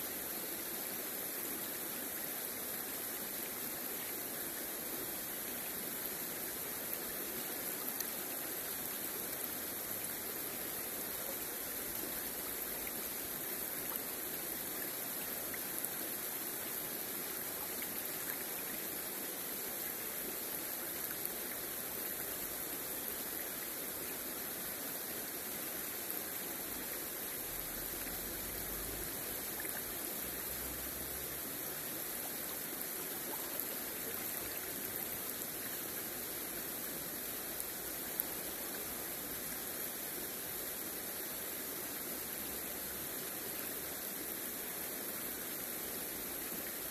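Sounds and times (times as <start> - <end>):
river water flowing over stones: 0.0 - 46.9.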